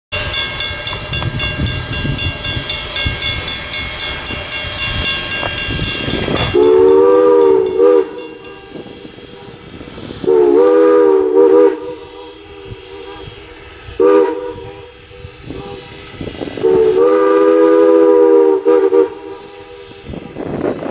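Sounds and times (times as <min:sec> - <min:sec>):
chime steam whistle: 0:00.1 - 0:20.6
steam locomotive chuffing past: 0:00.1 - 0:20.9.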